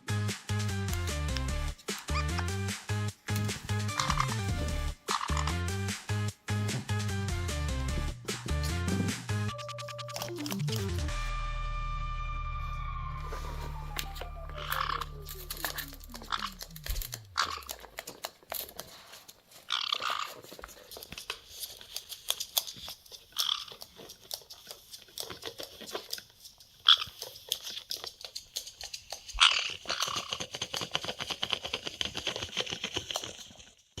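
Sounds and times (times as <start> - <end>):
parrots clicking and scratching: 0.5 - 11.1, 14.0 - 34.0.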